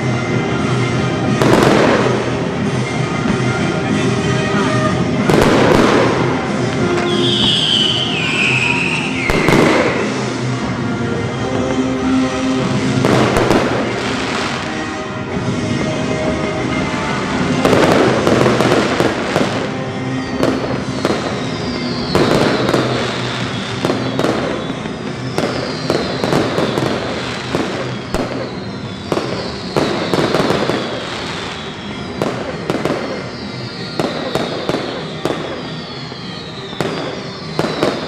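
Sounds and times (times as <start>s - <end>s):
fireworks bangs and crackling: 0.0s - 38.0s
fireworks whistles falling in pitch: 1.3s - 10.7s, 11.4s - 38.0s.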